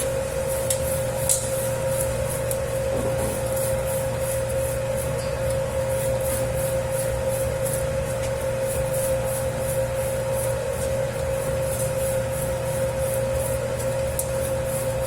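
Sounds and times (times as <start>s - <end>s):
dough hissing as it turns: 0.0s - 15.0s
dough mixer motor whine: 0.0s - 15.0s.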